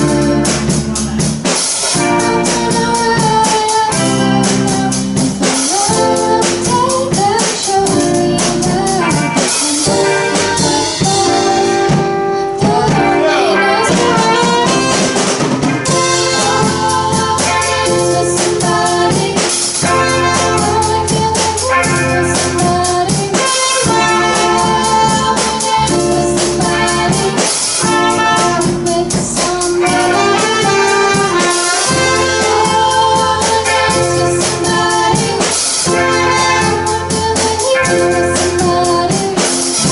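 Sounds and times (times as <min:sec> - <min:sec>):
band playing live: 0:00.0 - 0:39.9
drum kit beat: 0:00.0 - 0:39.9.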